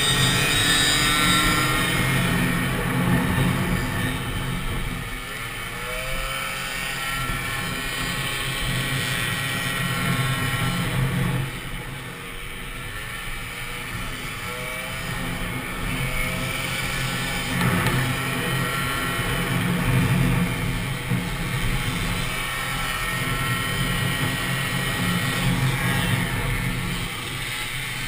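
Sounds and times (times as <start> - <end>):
moped engine revving: 0.0 - 28.0.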